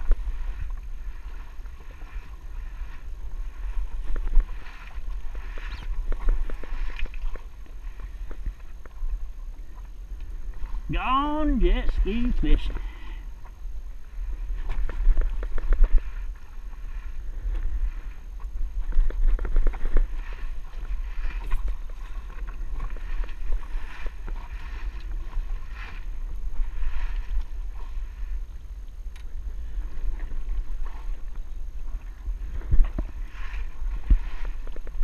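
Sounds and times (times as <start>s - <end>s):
waves slapping against hull: 0.0s - 10.9s, 11.9s - 35.0s
wind rumble on microphone: 0.0s - 35.0s.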